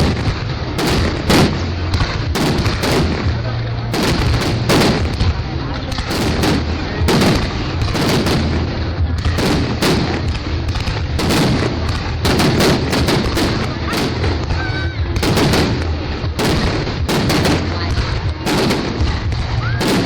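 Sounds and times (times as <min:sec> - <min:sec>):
firework shells bursting: 0:00.0 - 0:14.6, 0:15.2 - 0:20.0
fireworks rumble and crackle: 0:00.0 - 0:20.0.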